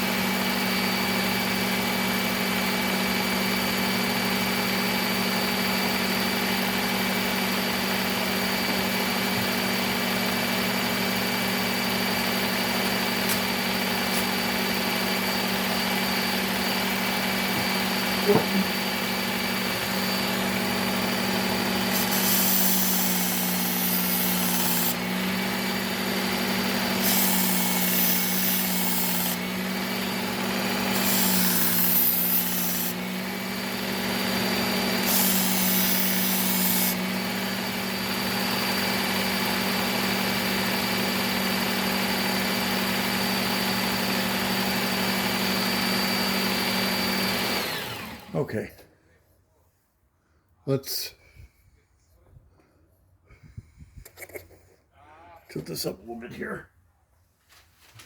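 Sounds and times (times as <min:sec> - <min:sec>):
belt sharpener motor hum: 0:00.0 - 0:48.4.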